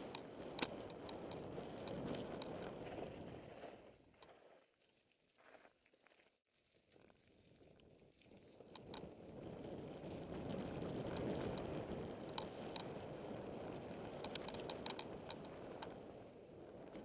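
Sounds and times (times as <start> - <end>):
bike and stones clicking and rattling: 0.0 - 17.0
bike tyres rolling over gravel: 0.0 - 17.0.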